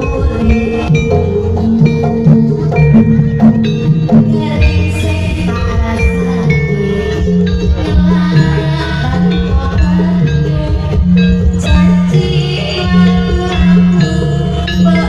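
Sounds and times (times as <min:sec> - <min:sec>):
metal mallet percussion: 0:00.0 - 0:15.0
steady percussion layer: 0:00.0 - 0:15.0.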